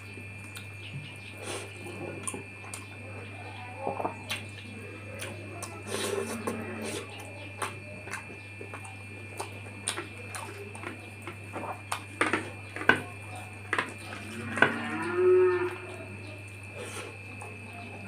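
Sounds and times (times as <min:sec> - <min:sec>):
fingers mixing food wet clicks: 0:00.0 - 0:14.6.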